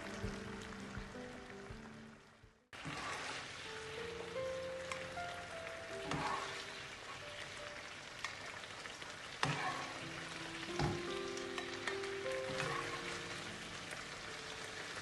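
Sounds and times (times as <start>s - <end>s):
chicken sizzling in a frying pan: 2.8s - 15.0s.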